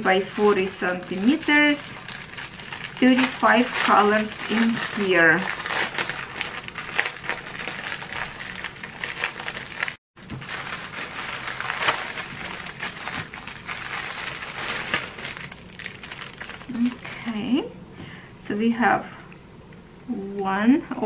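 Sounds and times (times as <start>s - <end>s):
plastic bag crinkling: 0.0s - 17.5s.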